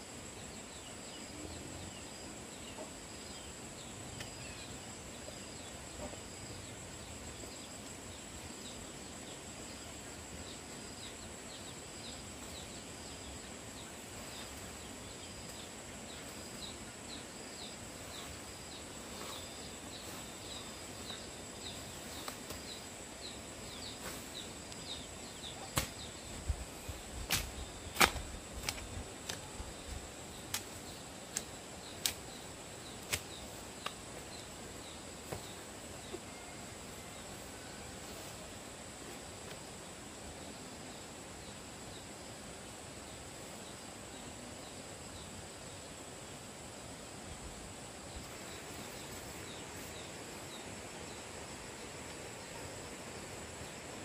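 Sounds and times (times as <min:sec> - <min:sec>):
high insect drone: 0:00.0 - 0:54.0
soft hiss: 0:00.0 - 0:54.0.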